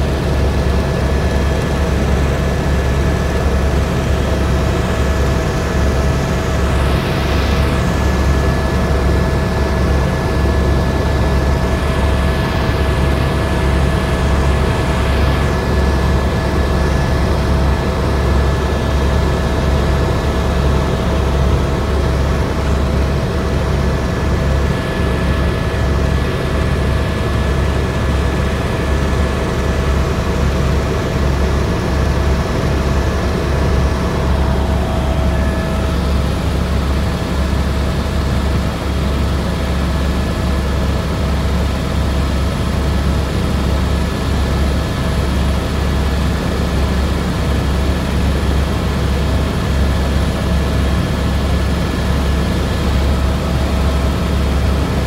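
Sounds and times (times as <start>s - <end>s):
helicopter engine whine: 0.0s - 55.0s
helicopter rotor thrum: 0.1s - 55.0s.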